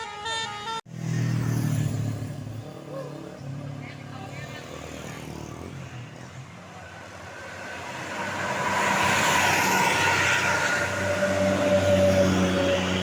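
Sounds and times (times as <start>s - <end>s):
bus engine and tyre noise: 0.0s - 13.0s.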